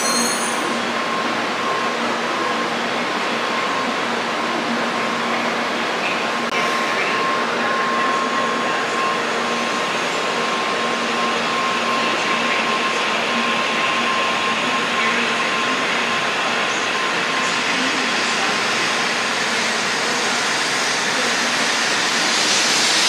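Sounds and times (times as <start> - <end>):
train rushing at speed: 0.0 - 23.0.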